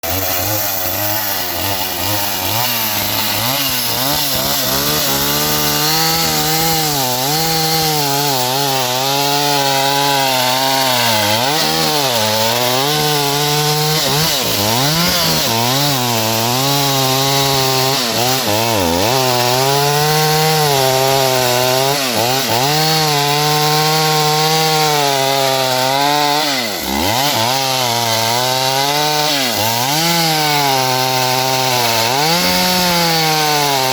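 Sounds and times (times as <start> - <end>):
chainsaw engine revving: 0.0 - 33.9.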